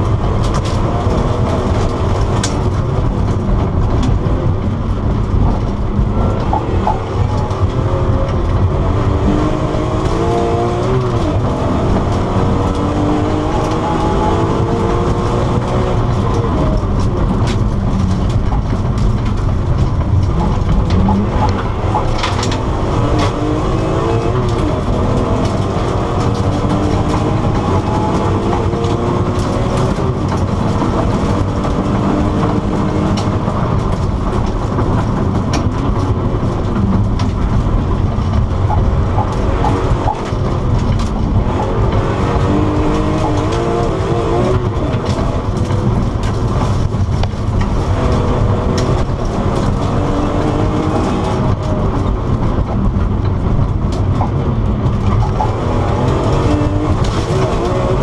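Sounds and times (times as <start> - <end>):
race car engine revving: 0.0 - 58.0
road and tyre noise: 0.0 - 58.0.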